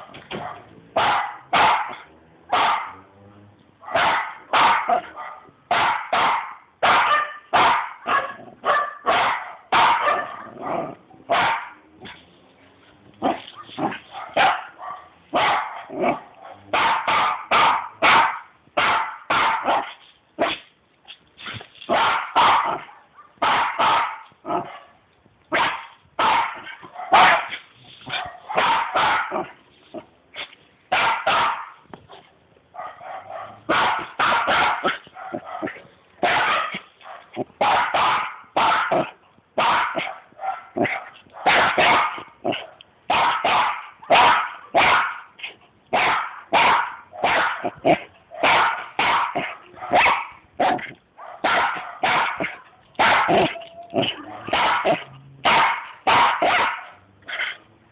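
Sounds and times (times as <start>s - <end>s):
dog barking: 0.0s - 3.1s, 3.8s - 12.2s, 13.2s - 20.6s, 21.9s - 29.6s, 30.9s - 31.8s, 32.8s - 57.6s.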